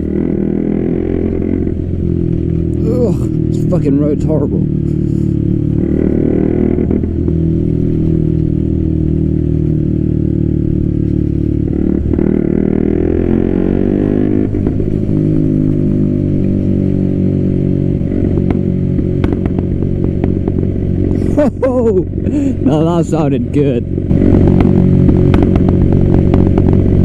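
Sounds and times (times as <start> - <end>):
exhaust crackles: 0.0 - 27.0
motorcycle engine revving: 0.0 - 27.0.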